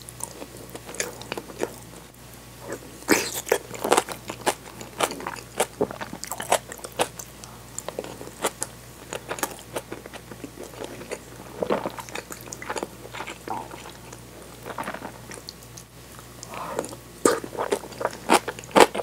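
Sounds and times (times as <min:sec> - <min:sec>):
wet crunchy chewing: 0:02.6 - 0:19.0.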